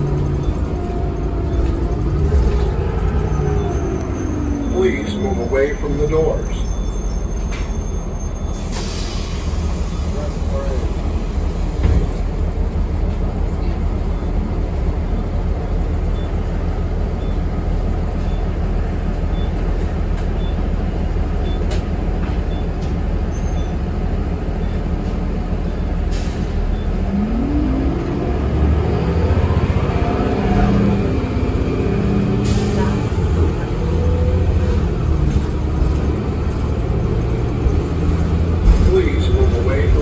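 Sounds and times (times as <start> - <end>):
bus engine rumble: 0.0 - 40.0.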